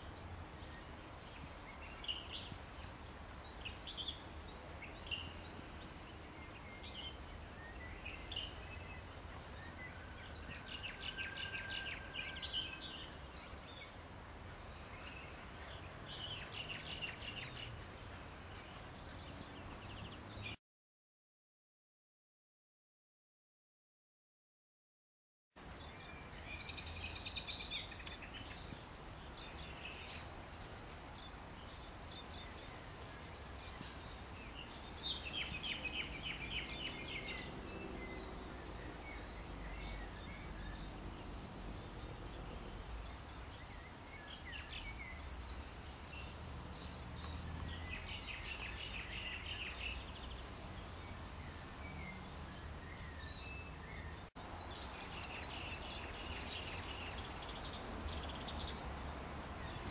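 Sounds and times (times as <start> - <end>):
birds chirping and singing: 0.0 - 20.6, 25.6 - 58.8.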